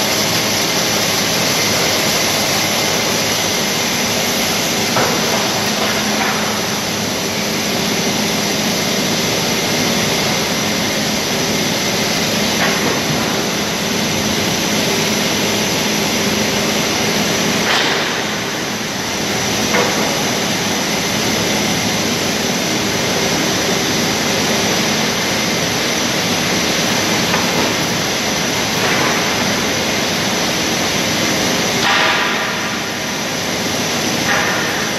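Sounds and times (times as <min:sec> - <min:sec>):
conveyors running: 0:00.0 - 0:34.9.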